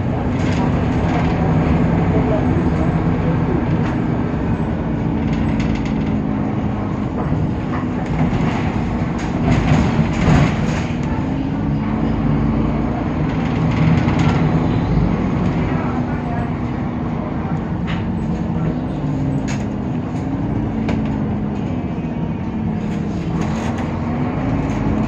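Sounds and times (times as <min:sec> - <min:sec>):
bus diesel engine droning: 0:00.0 - 0:25.0.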